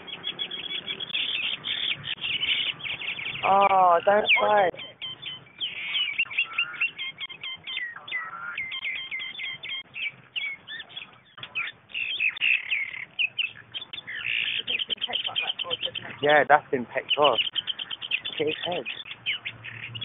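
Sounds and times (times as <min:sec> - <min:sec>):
birds chirping rapidly: 0:00.0 - 0:20.0.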